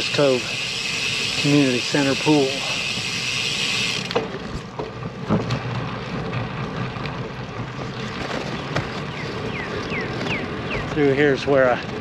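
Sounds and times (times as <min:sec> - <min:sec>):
bicycle tyre rumble: 0:00.0 - 0:12.0
wheels knocking over joints: 0:00.0 - 0:12.0.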